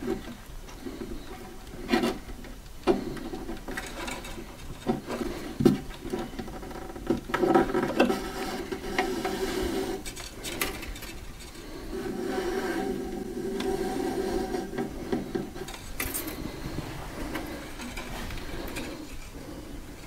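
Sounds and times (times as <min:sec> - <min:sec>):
wires rubbing and rustling: 0:00.0 - 0:20.0.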